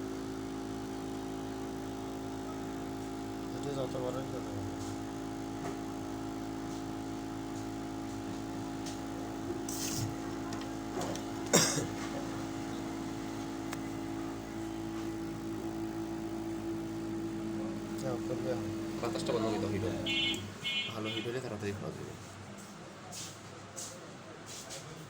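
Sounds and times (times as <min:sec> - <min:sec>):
electrical motor hum: 0:00.0 - 0:22.4.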